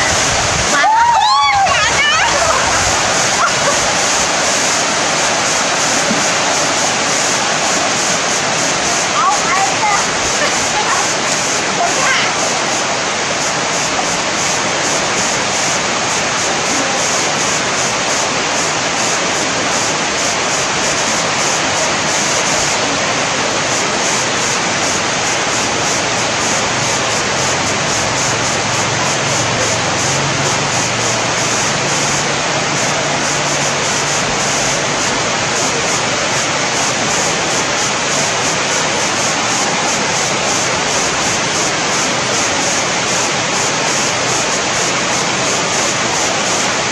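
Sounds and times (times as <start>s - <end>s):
river water pouring over weir: 0.0s - 46.9s.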